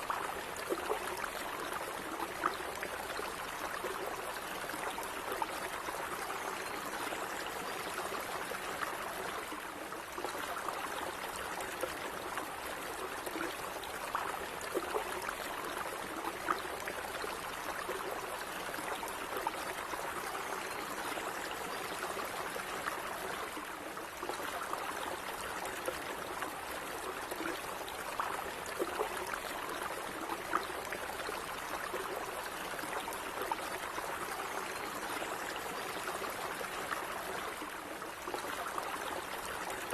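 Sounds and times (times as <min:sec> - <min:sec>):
stream burbling and trickling: 0:00.0 - 0:39.9.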